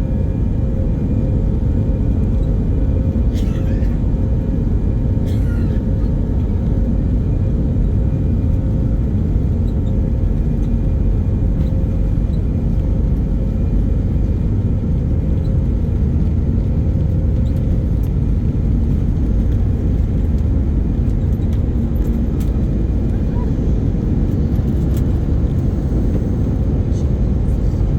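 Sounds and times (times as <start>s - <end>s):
jet engines rumble: 0.0s - 27.9s.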